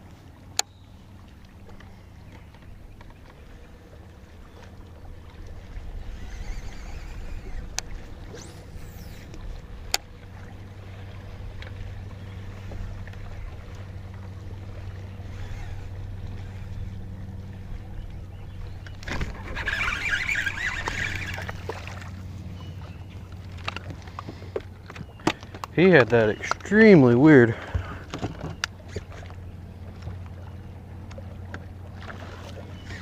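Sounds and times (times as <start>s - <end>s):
boat motor humming: 0.0s - 33.0s.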